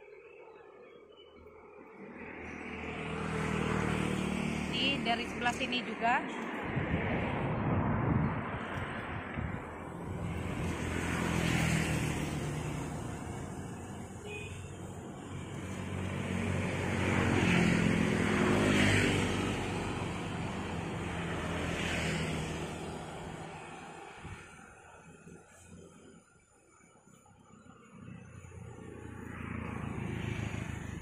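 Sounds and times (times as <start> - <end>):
vehicles passing by: 0.8 - 31.0.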